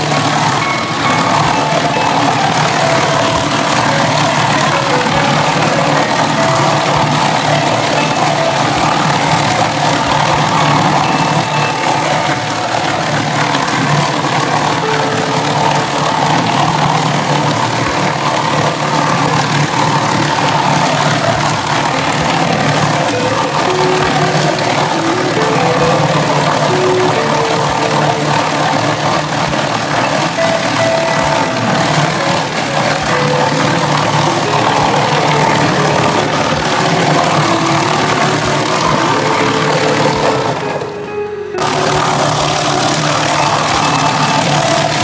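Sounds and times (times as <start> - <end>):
machine droning: 0.0 - 45.0.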